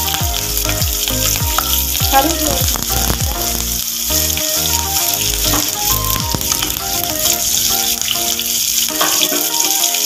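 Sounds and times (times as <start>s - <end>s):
background music melody: 0.0s - 10.0s
hot oil sizzling in a pan: 0.0s - 10.0s.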